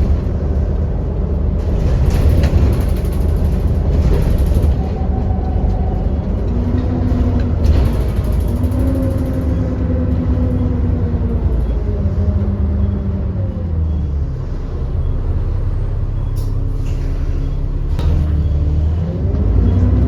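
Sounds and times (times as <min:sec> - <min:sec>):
bus engine droning and whining: 0:00.0 - 0:20.0.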